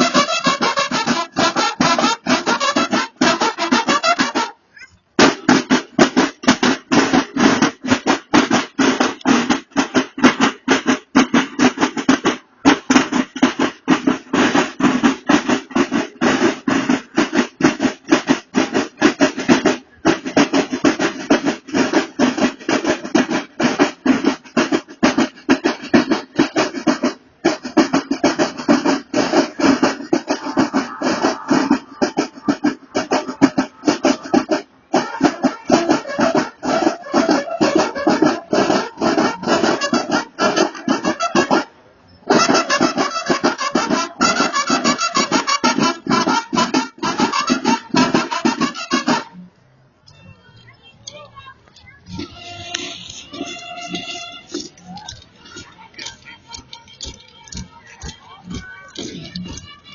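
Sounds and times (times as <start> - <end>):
snare drums rolling: 0.0 - 4.6, 5.2 - 49.4, 51.2 - 59.9.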